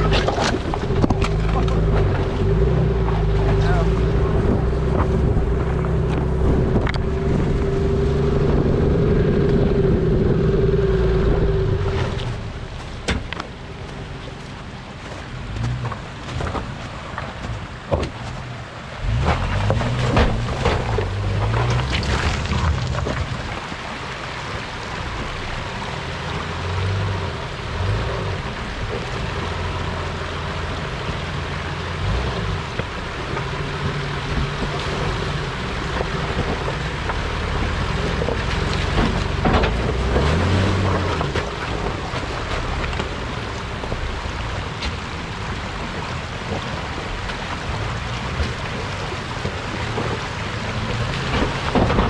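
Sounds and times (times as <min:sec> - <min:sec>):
tyres splashing through water: 0:00.0 - 0:52.0
vehicle engines revving: 0:00.0 - 0:52.0.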